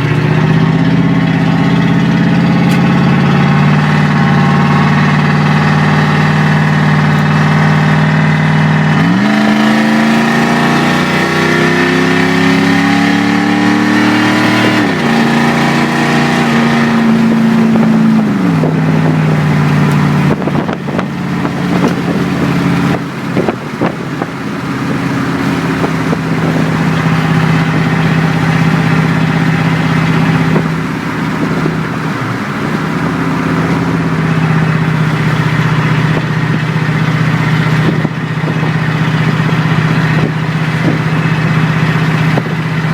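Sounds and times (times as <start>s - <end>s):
truck engine accelerating: 0.0s - 42.9s.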